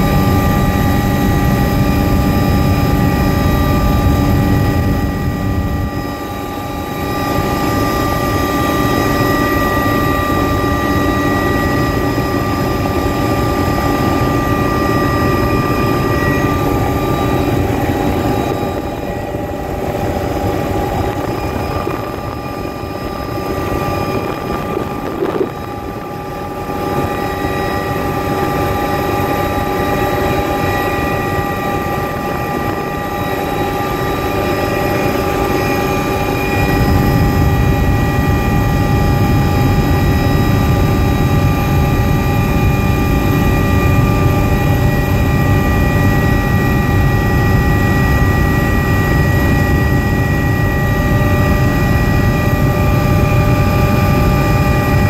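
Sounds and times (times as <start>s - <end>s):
helicopter engine and rotor drone: 0.0s - 55.0s
high whining tones: 0.0s - 55.0s.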